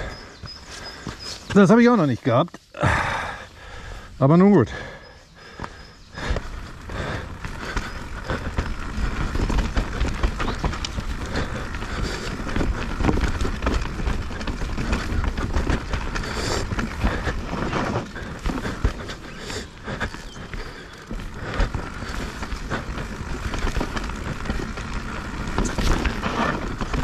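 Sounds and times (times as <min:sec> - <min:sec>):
bike knocking and rattling: 0:00.0 - 0:04.0, 0:05.4 - 0:27.0
bike tyres rolling over dirt: 0:00.0 - 0:27.0.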